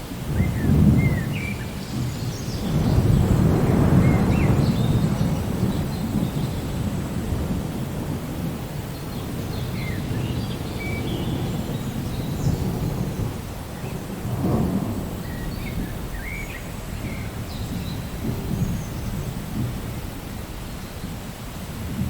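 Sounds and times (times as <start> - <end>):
rain hissing: 0.0 - 22.0
rumble of thunder: 0.0 - 22.0.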